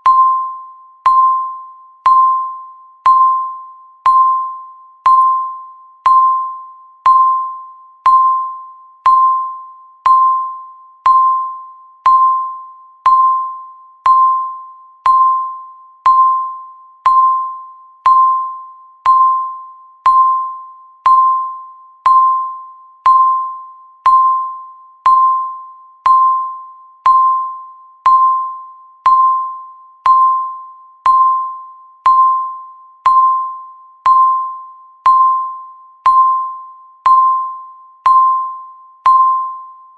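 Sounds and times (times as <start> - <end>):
countdown timer beeping: 0.0 - 39.8.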